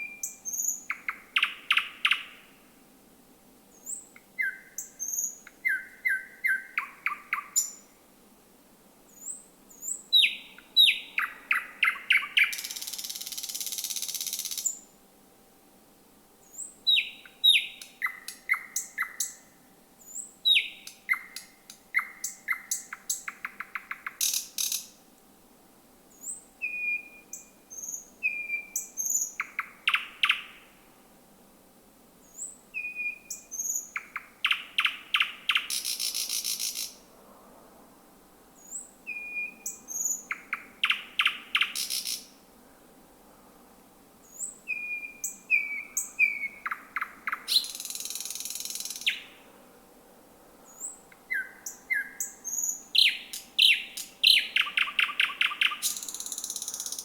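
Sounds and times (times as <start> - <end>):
bird singing: 0.0 - 2.6, 3.7 - 7.9, 9.1 - 14.9, 16.4 - 25.0, 26.1 - 30.7, 32.2 - 37.0, 38.6 - 42.3, 44.2 - 49.4, 50.6 - 57.0.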